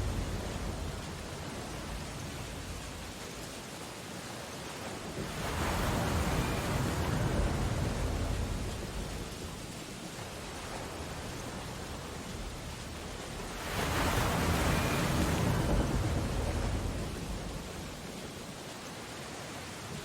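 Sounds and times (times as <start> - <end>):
ocean surf: 0.0 - 20.0
rain on window glass: 0.0 - 20.0.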